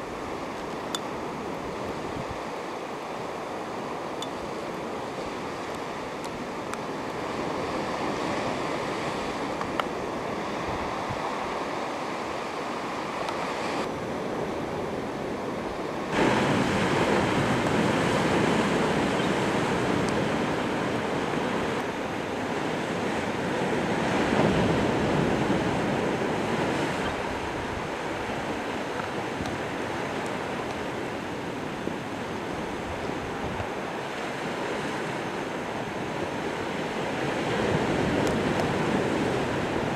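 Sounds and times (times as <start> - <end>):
sea surf: 0.0 - 39.9
wind: 0.0 - 39.9.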